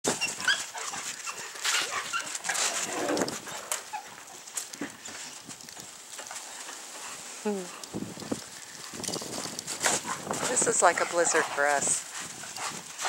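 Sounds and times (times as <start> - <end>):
rustling: 0.1 - 13.0.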